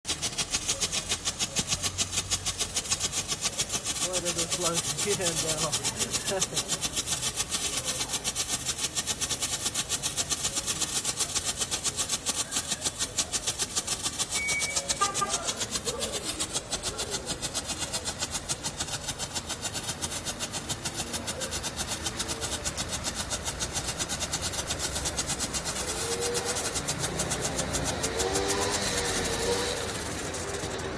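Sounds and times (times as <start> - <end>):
firework rapid cracks: 0.0 - 30.9.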